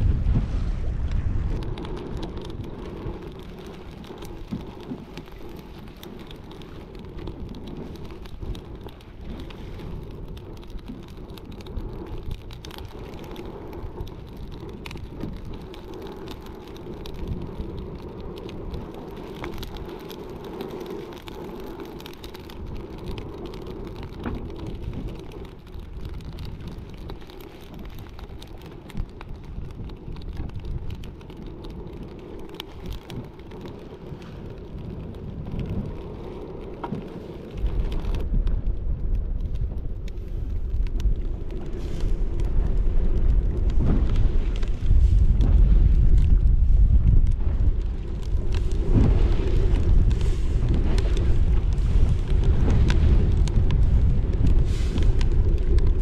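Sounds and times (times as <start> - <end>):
fire crackling and popping: 0.0 - 56.0
steady low rumble: 0.0 - 56.0.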